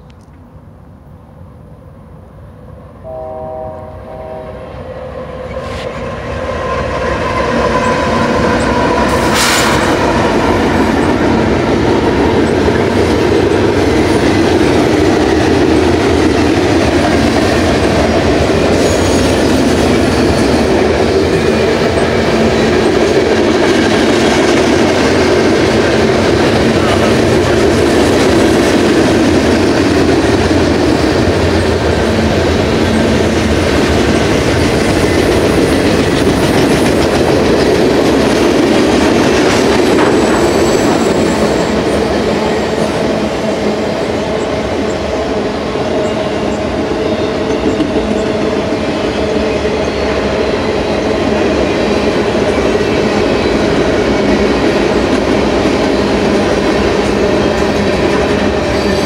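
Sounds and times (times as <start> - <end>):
train wheels rumbling on rails: 4.2 - 59.0.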